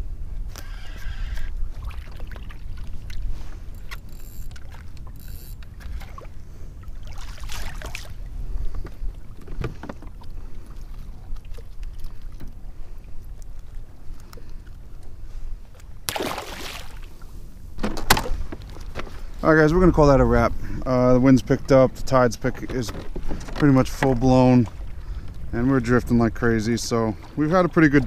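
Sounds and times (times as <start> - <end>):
wind rumbling on microphone: 0.0 - 28.0
water lapping against hull: 0.2 - 28.0.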